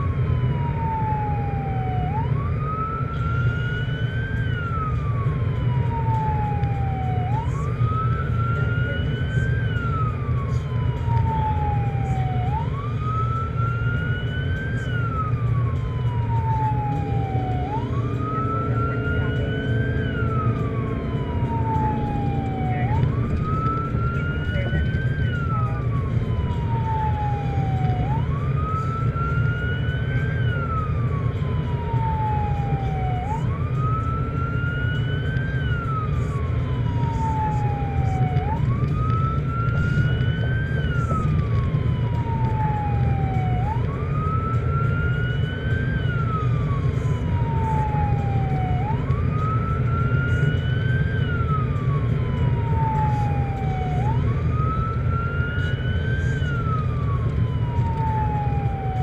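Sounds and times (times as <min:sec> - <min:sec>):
electronic siren wailing: 0:00.0 - 0:59.0
road and engine noise inside car: 0:00.0 - 0:59.0.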